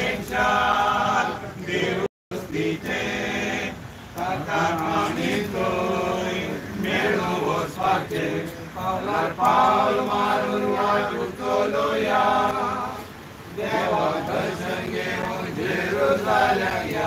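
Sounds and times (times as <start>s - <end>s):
congregation chanting a prayer: 0.0s - 17.0s.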